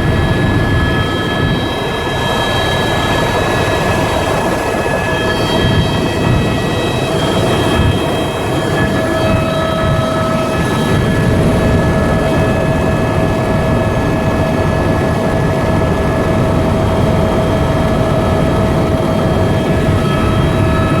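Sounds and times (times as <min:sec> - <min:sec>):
helicopter rotor and turbine noise: 0:00.0 - 0:21.0.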